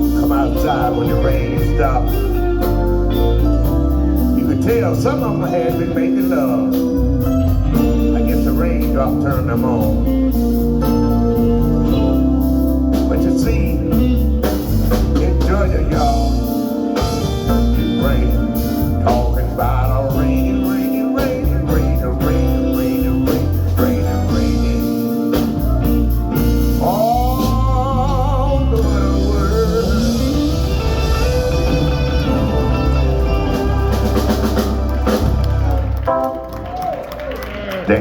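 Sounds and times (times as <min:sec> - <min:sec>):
person singing: 0:00.0 - 0:35.9
live band playing soul ballad: 0:00.0 - 0:38.0.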